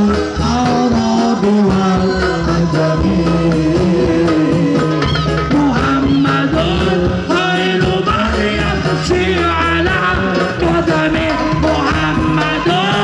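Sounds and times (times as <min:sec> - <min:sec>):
amplified band accompaniment: 0:00.0 - 0:13.0
man singing into a microphone: 0:00.0 - 0:13.0.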